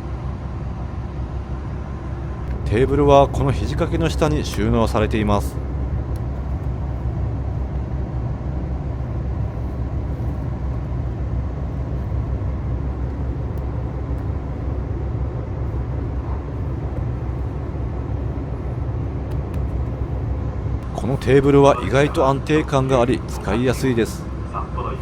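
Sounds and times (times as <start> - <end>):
train carriage rumble: 0.0 - 25.0.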